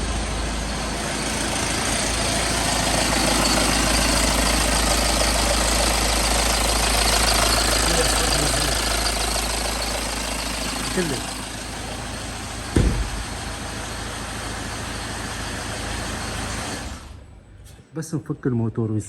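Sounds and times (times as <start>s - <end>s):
car engine idling: 0.0s - 17.1s.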